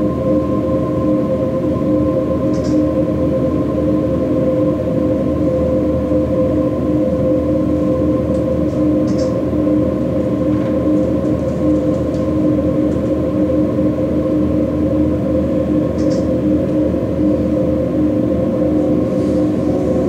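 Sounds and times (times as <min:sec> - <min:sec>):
held drone tones: 0:00.0 - 0:20.0.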